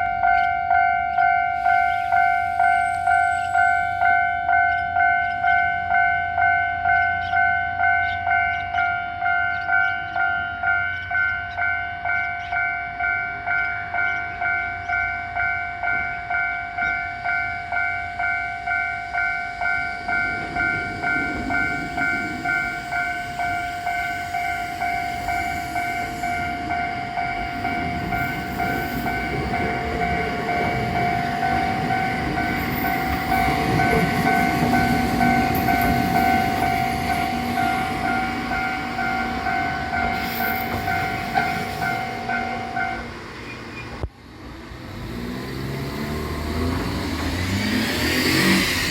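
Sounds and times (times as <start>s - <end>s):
train running noise: 0.0s - 48.9s.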